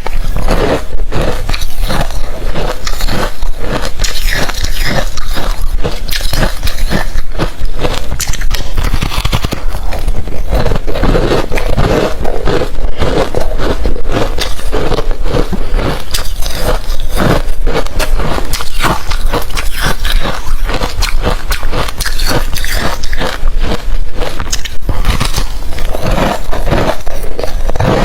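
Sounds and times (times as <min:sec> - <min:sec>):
chewing crunchy ice: 0:00.0 - 0:28.0.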